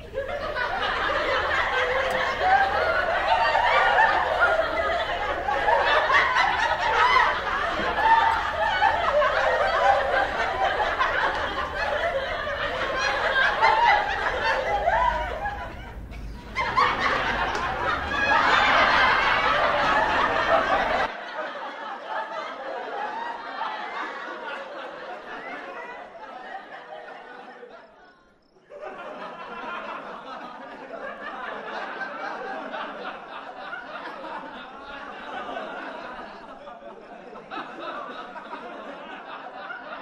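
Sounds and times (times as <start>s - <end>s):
crowd laughing: 0.0s - 40.0s.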